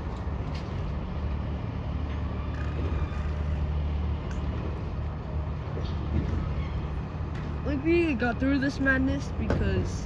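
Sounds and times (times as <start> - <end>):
garbage truck engine droning: 0.0 - 10.0.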